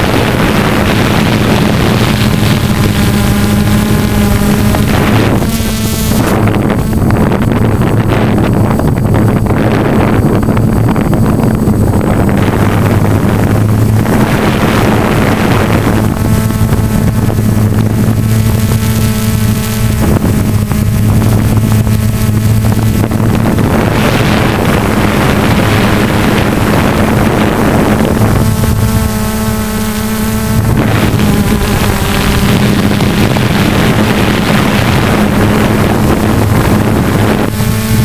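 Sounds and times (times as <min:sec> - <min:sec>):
drone motors droning: 0:00.0 - 0:38.0
wind on microphone: 0:00.0 - 0:38.0.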